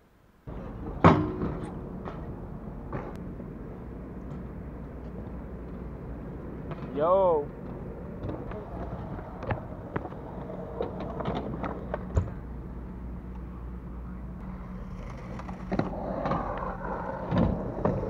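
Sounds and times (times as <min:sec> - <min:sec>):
bike rolling on concrete: 0:00.5 - 0:18.0.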